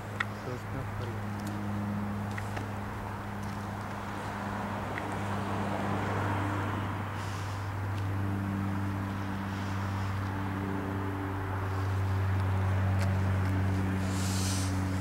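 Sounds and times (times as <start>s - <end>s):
low mechanical hum: 0.0s - 15.0s
traffic noise: 0.0s - 15.0s.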